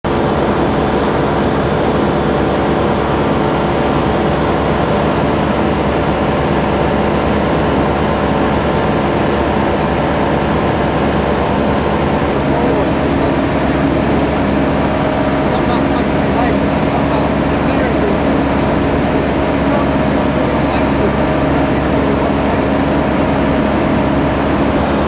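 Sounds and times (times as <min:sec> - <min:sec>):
propeller engine drone: 0:00.0 - 0:25.0.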